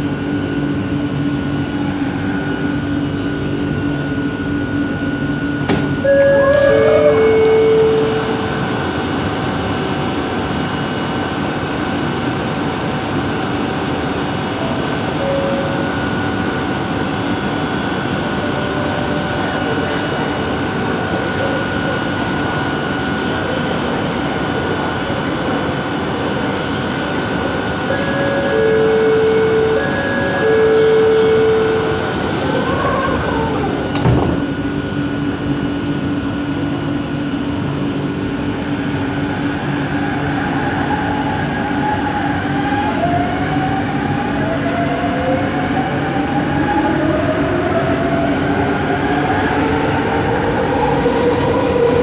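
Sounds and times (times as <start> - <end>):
metro train rumbling on track: 0.0 - 52.0.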